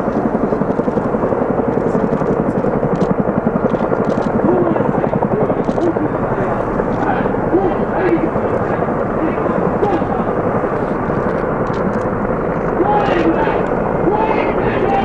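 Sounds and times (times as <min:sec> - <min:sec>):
helicopter rotors beating: 0:00.0 - 0:15.0.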